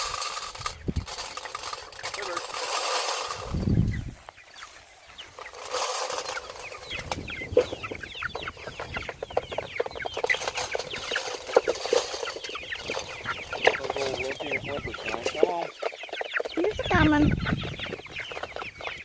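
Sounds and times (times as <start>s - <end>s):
chickens clucking and chirping: 0.0s - 19.0s.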